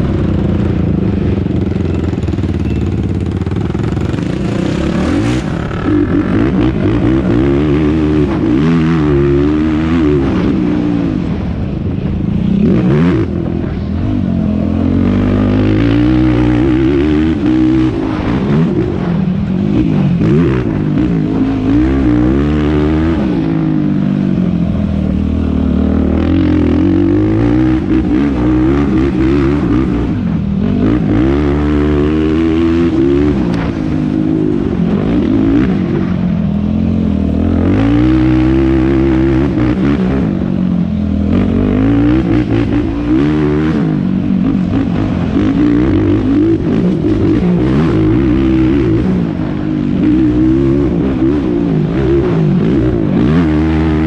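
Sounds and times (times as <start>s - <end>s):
quad engine revving: 0.0s - 11.5s, 12.6s - 36.1s, 36.8s - 54.0s.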